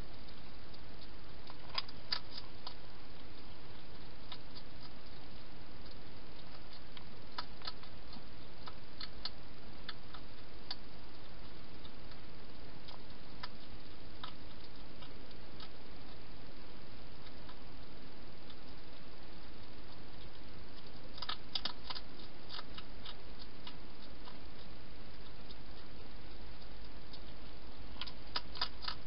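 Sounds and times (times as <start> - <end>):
hedgehog crunching dry food: 0.0 - 29.0
steady hiss: 0.0 - 29.0.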